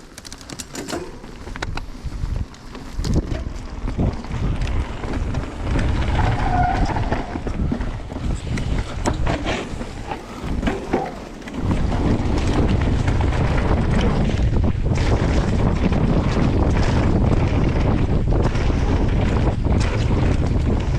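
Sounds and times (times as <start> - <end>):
bike rattles and knocks: 0.0 - 20.9
wind buffeting microphone: 1.1 - 20.9.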